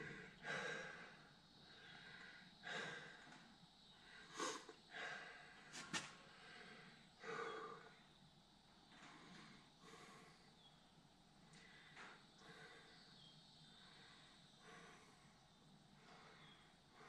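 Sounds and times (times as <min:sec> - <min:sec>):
man breathing heavily: 0:00.0 - 0:10.6, 0:11.2 - 0:17.0.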